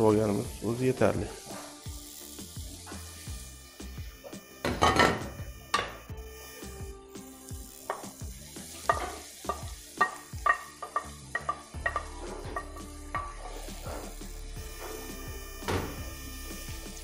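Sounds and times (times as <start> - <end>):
vegetables sizzling in butter: 0.0 - 17.0.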